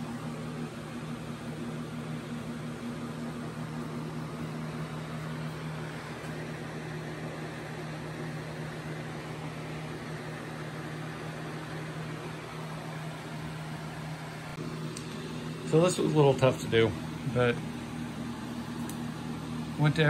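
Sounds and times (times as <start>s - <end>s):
mechanical hum with hiss: 0.0s - 20.0s.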